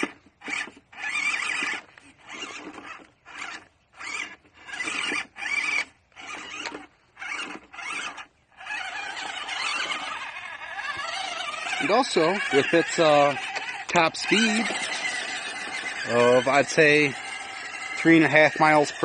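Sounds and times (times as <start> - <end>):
electric motor and gearbox whining: 0.0 - 19.0.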